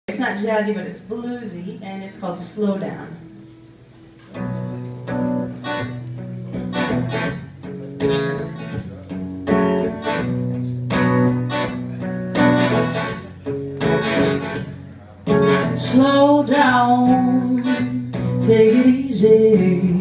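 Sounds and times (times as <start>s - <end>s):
guitar strumming blues chords: 2.1s - 20.0s.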